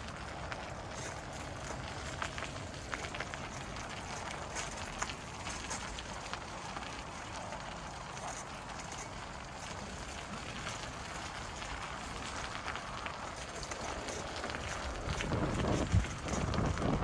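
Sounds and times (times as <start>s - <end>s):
bicycle tyres crunching snow: 0.0s - 17.0s.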